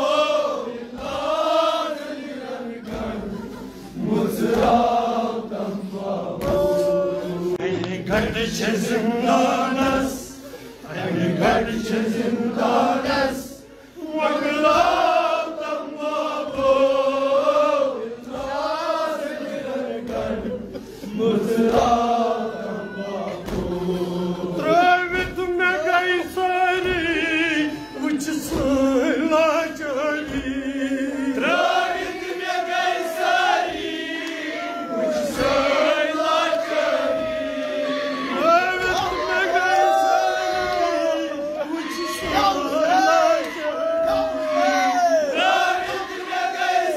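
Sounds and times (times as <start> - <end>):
men chanting a lament: 0.0 - 46.9.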